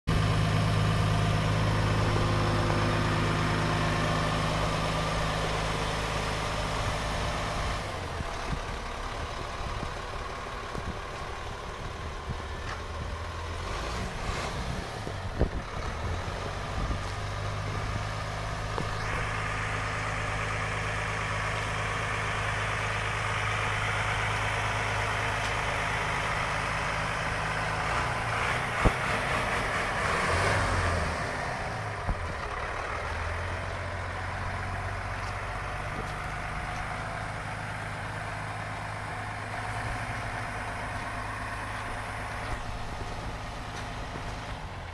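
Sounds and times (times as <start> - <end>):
diesel engine idling: 0.1 - 44.9.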